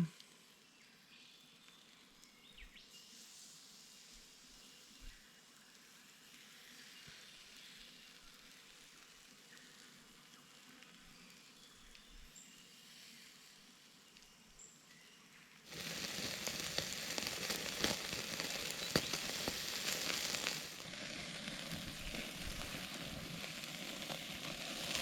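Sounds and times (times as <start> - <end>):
meat sizzling over coals: 0.0 - 25.0.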